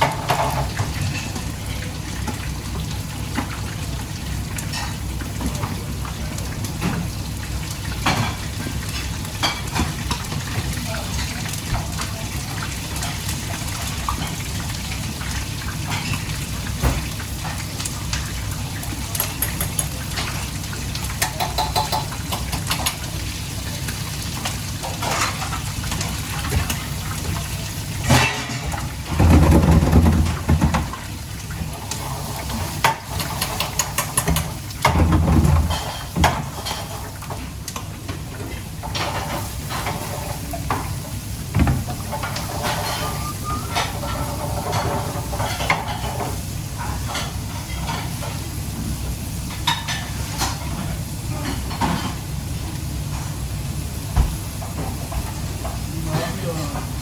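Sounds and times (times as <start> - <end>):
utensils and pans clinking: 0.0 - 2.4, 4.6 - 7.2, 7.9 - 12.0, 12.6 - 31.0, 31.6 - 37.9, 38.5 - 48.4, 49.5 - 52.2.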